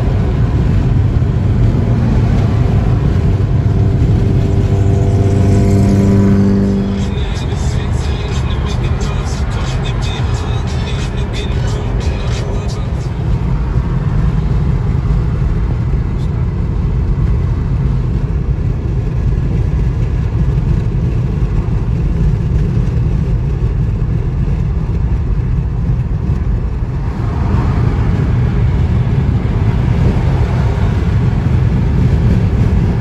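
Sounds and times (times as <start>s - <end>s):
tyre and engine rumble: 0.0s - 33.0s.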